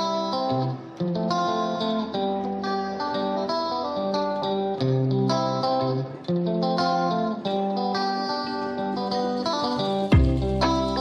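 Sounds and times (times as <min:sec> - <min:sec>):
guitar picking single notes: 0:00.0 - 0:11.0.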